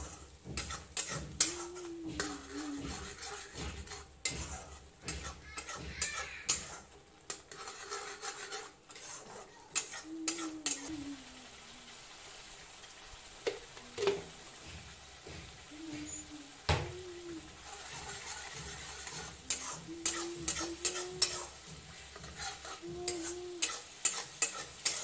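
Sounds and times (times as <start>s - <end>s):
metal spatula scraping a pan: 0.0s - 11.5s, 12.7s - 25.0s
paste sizzling: 0.0s - 25.0s.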